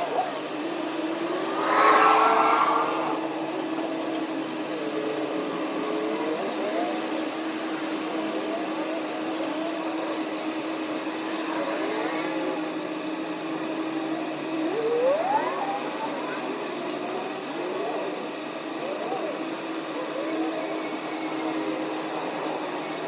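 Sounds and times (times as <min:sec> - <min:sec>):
engine notes: 0:00.0 - 0:23.0.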